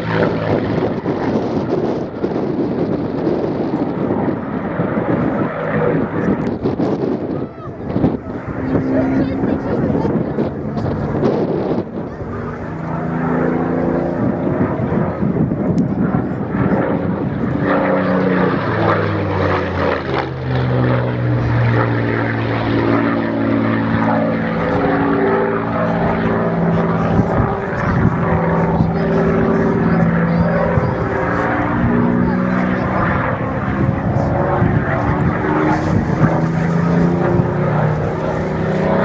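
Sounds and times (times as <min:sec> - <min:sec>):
propeller plane engine: 0:00.0 - 0:39.0.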